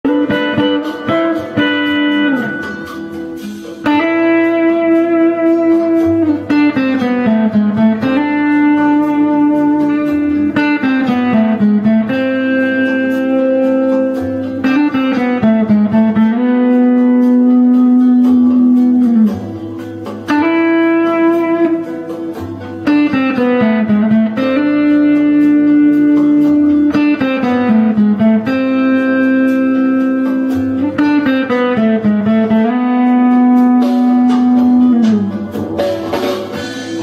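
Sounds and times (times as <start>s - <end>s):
plucked guitar: 0.0s - 37.0s
sliding held melody notes: 0.0s - 37.0s.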